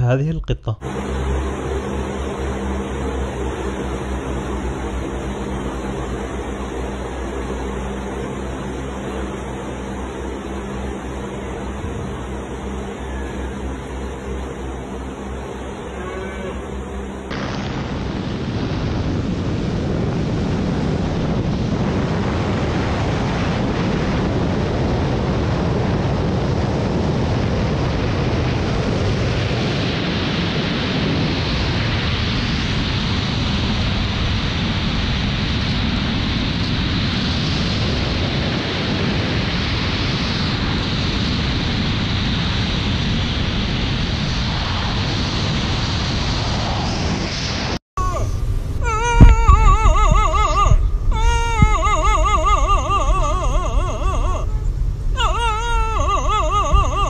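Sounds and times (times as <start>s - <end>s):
rushing air buffeting microphone: 0.7s - 57.0s.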